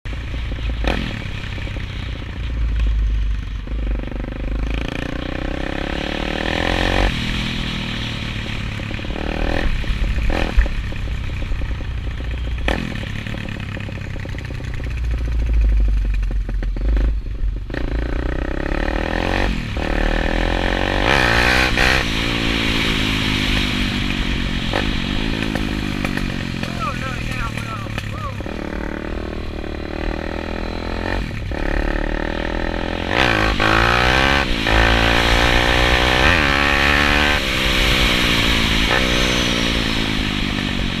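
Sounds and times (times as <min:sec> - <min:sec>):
pit bike engine revving: 0:00.1 - 0:02.4, 0:03.1 - 0:41.0.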